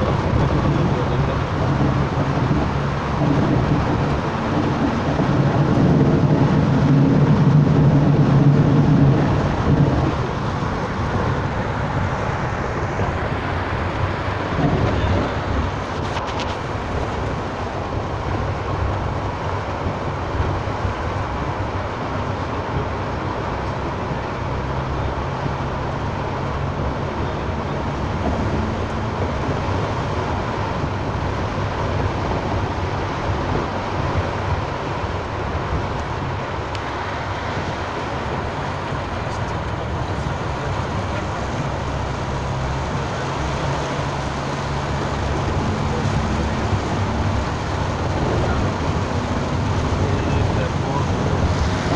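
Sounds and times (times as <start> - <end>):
car engine low hum: 0.0 - 51.9
rain on car roof and windscreen: 0.0 - 51.9
tyres on wet road: 0.0 - 51.9.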